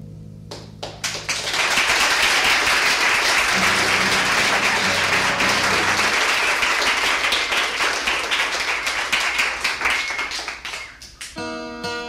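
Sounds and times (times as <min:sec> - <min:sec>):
audience applauding: 0:00.8 - 0:11.3.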